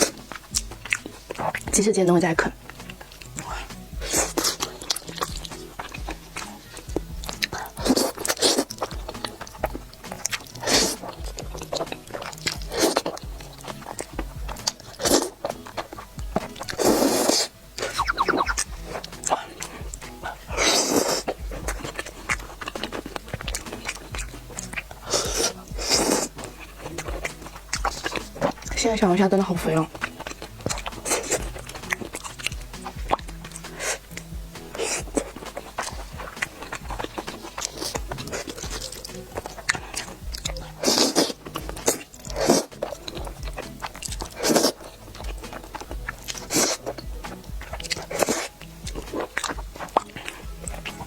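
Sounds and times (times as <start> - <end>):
background music: 0.0 - 51.0
chewing and biting: 0.0 - 51.0
wet mouth clicks: 0.0 - 51.0.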